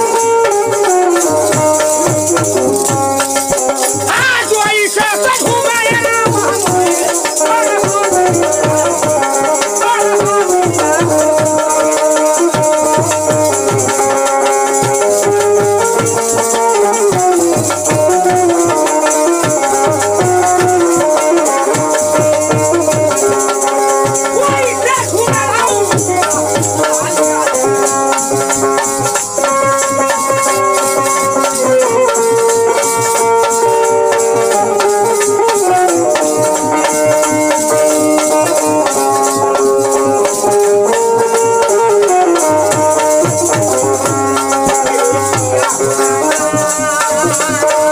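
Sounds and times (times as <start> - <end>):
bulbul tarang melody: 0.0 - 47.9
dholak drum strokes: 0.0 - 47.9
kartal jingles: 0.0 - 47.9
keyboard melody: 0.0 - 47.9.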